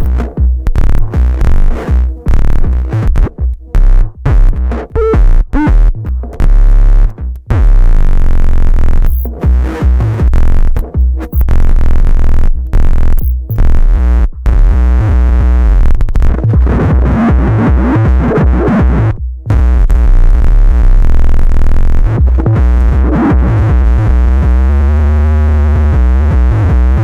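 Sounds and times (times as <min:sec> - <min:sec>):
distorted electronic feedback noise: 0:00.0 - 0:27.0
held bass drone: 0:00.0 - 0:27.0
stuttering bass tones: 0:00.0 - 0:27.0.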